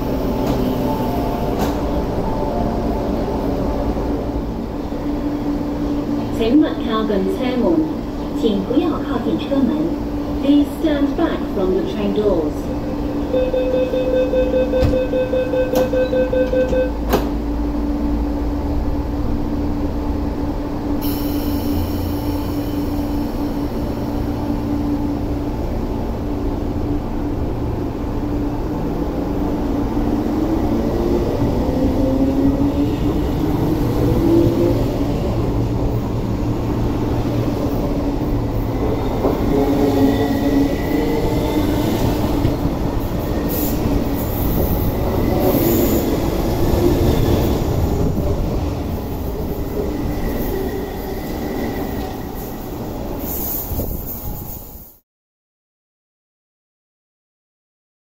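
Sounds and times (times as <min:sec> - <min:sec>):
electric train hum: 0:00.0 - 0:55.0.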